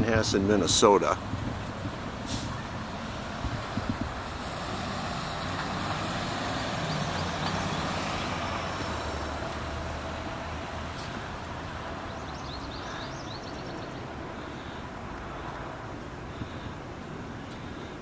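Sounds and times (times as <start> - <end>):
passing cars and truck: 0.0 - 18.0.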